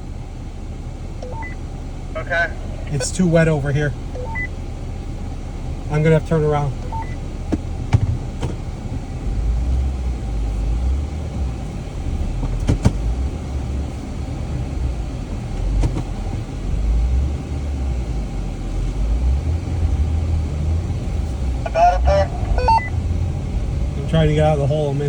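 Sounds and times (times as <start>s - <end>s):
engine rumbling under load: 0.0s - 25.0s.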